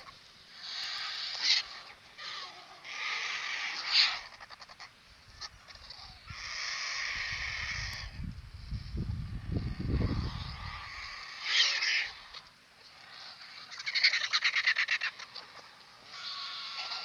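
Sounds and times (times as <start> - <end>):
harsh raspy bird calls: 0.0 - 17.0.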